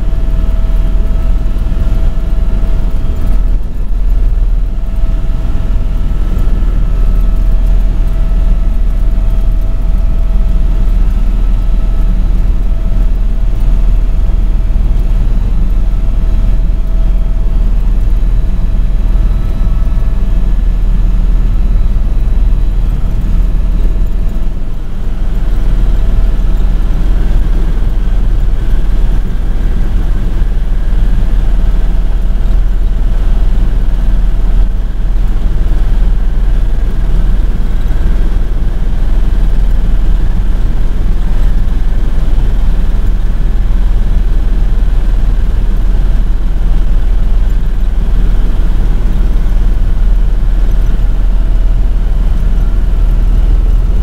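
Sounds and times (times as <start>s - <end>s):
helicopter engine and rotor rumble: 0.0s - 54.0s
steady whining tones: 0.0s - 54.0s.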